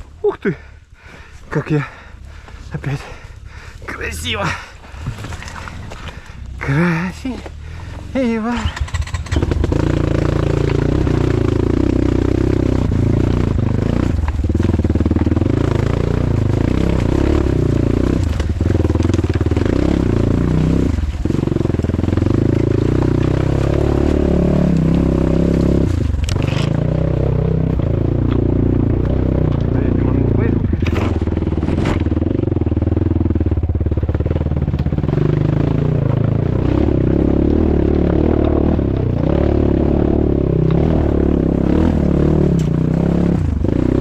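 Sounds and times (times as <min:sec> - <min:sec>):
motorcycle engine revving: 0:01.7 - 0:44.0.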